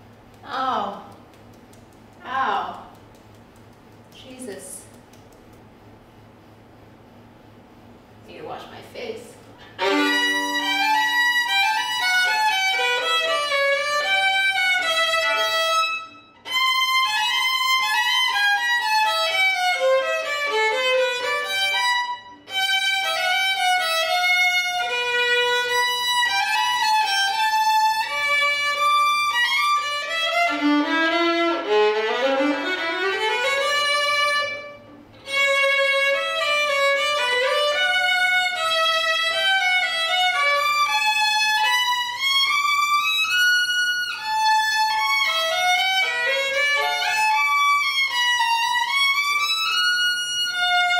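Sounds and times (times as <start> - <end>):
solo violin: 9.6 - 50.9.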